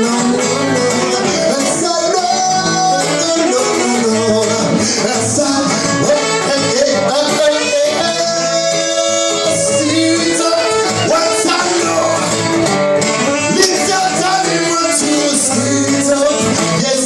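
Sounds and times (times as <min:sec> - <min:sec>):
bass line: 0:00.0 - 0:17.0
guitars: 0:00.0 - 0:17.0
person singing: 0:00.0 - 0:17.0.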